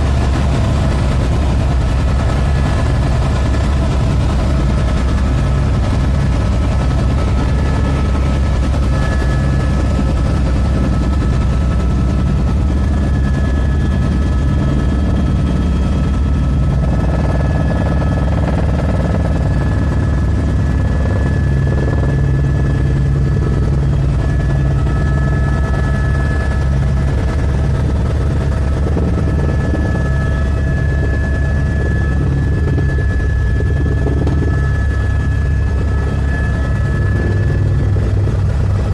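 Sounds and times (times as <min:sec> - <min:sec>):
helicopter rotor and engine rumble: 0:00.0 - 0:38.9.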